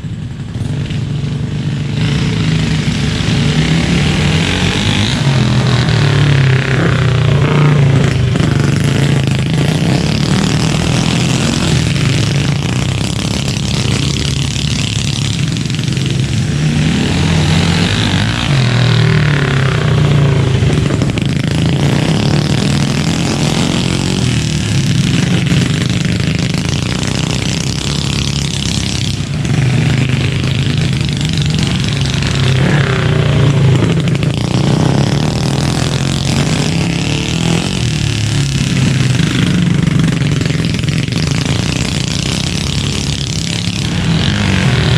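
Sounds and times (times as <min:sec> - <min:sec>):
mini bike engines revving: 0:00.0 - 0:44.9.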